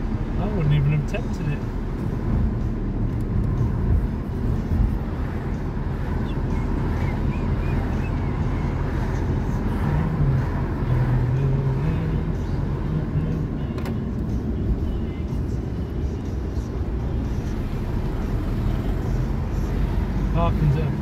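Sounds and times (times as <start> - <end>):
car interior engine and tyre rumble: 0.0 - 21.0.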